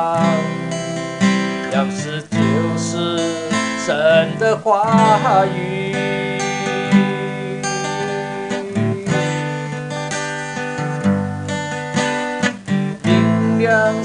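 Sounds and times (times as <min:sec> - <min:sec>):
person singing: 0:00.0 - 0:11.0, 0:12.8 - 0:14.0
strummed acoustic guitar: 0:00.0 - 0:14.0.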